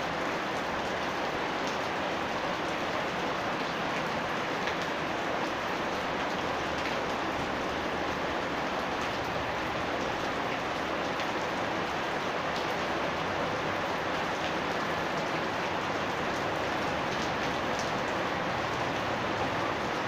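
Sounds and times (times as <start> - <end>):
rain drops ticking: 0.0 - 20.0
steady rain hiss: 0.0 - 20.0.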